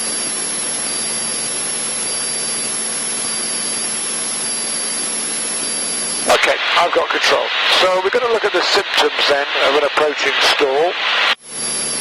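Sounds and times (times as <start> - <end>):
airplane engine and propeller drone: 0.0 - 12.0.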